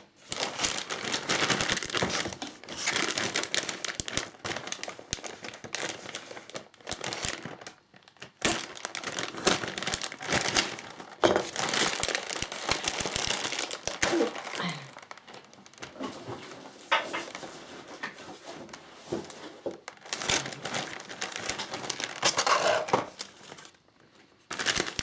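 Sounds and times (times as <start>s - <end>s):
plastic packaging crinkling: 0.1s - 25.0s.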